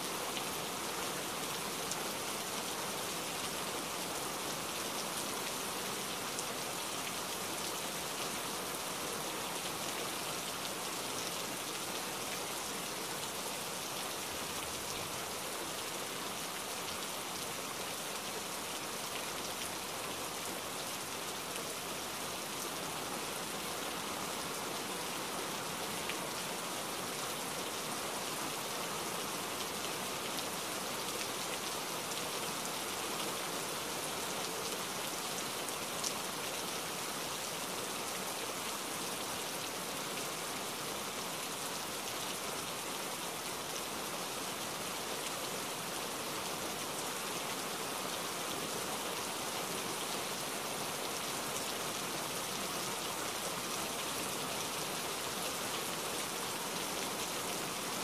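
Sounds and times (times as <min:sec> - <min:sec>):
rain falling steadily: 0:00.0 - 0:58.0.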